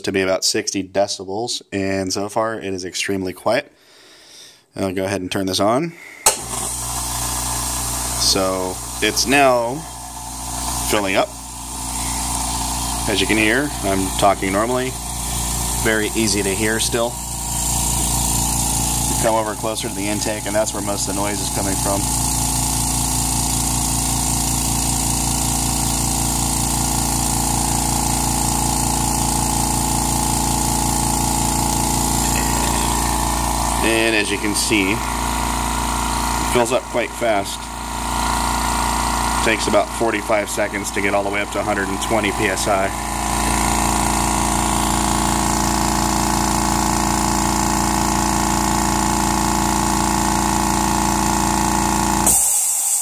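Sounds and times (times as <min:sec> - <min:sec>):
air compressor running: 0:06.0 - 0:53.0.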